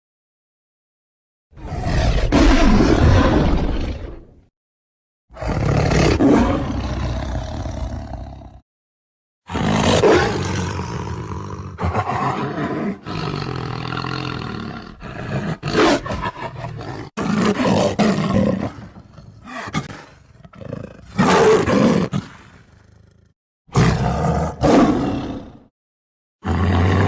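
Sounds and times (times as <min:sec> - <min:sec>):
tiger roaring: 0:01.6 - 0:04.4, 0:05.3 - 0:08.6, 0:09.5 - 0:25.7, 0:26.4 - 0:27.0.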